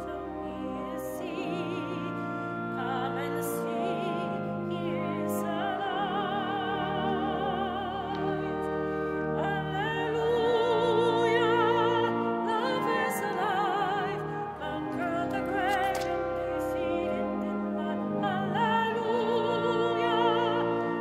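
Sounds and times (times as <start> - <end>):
sustained accompanying chords: 0.0 - 21.0.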